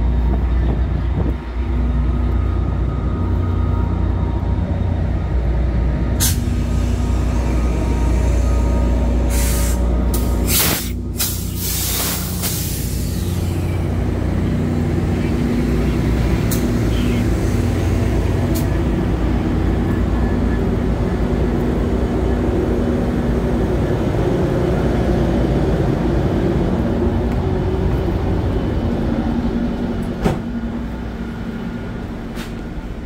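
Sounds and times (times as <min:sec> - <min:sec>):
idling diesel train rumble: 0:00.0 - 0:33.0.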